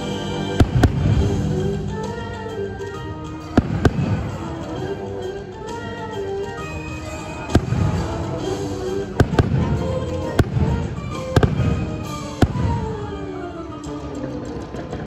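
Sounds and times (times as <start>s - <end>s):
fireworks bursting with bangs: 0.0s - 15.0s
music: 0.0s - 15.0s.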